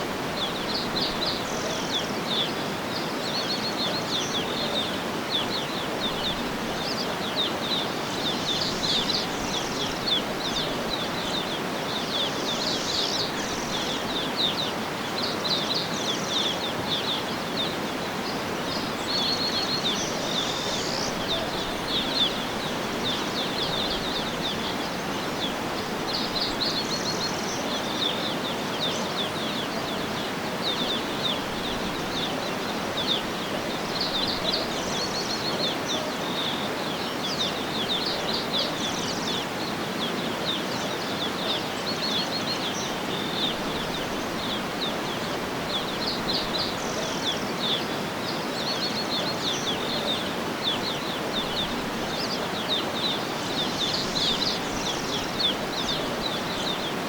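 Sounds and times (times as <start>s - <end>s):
outdoor ambience hiss: 0.0s - 57.0s
birds chirping and trilling: 0.2s - 57.0s.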